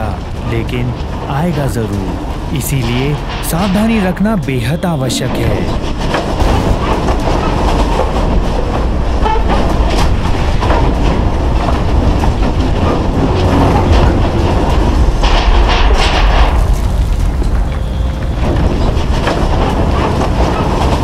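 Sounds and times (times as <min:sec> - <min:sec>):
rattling and clattering: 0:00.0 - 0:04.5, 0:05.4 - 0:21.0
deep earthquake rumble: 0:00.0 - 0:21.0.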